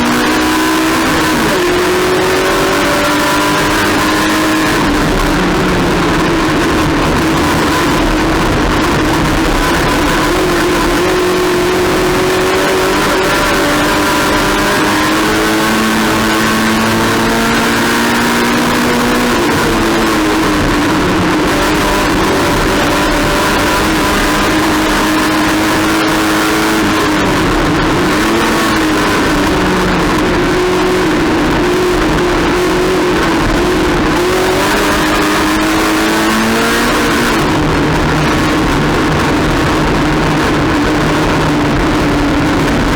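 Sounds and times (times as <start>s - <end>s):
race car engine running hard: 0.0s - 42.9s
road and wind noise: 0.0s - 42.9s.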